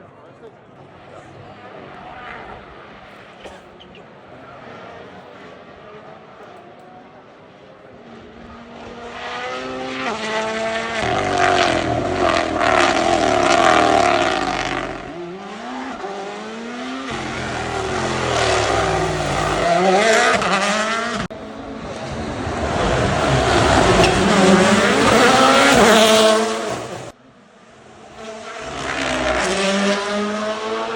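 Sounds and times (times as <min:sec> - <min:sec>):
rally car engine accelerating: 0:04.5 - 0:27.2, 0:28.0 - 0:30.9.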